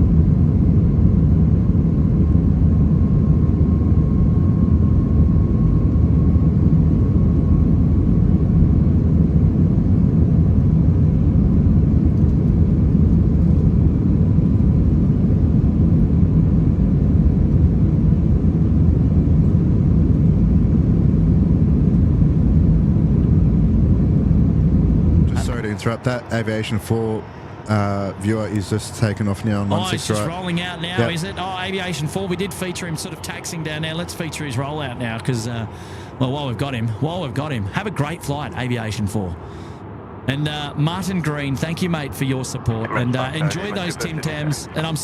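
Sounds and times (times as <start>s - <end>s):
airplane engines rumbling in cabin: 0.0s - 45.0s
faint steady whine: 0.0s - 45.0s.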